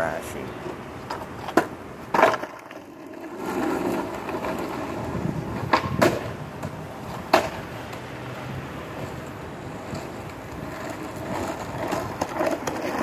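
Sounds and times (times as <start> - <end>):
skateboard wheels rolling on asphalt: 0.0 - 13.0
skateboard clacks: 0.6 - 13.0.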